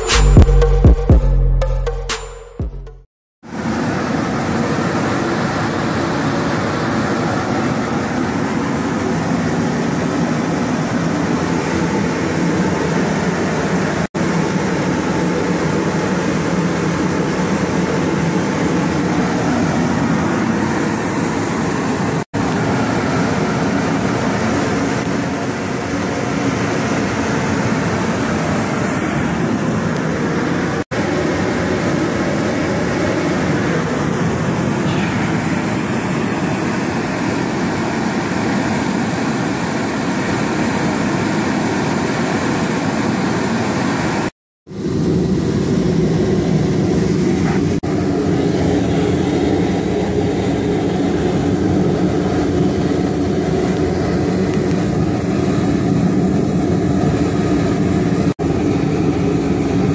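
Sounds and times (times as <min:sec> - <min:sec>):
gas burners roaring: 0:03.5 - 0:59.9.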